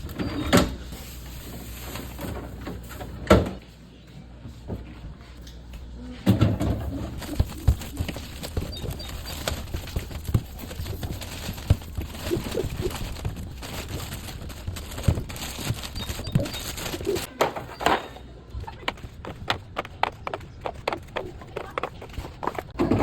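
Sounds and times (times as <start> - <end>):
groceries knocking and clunking: 0.0 - 3.6, 6.2 - 23.0.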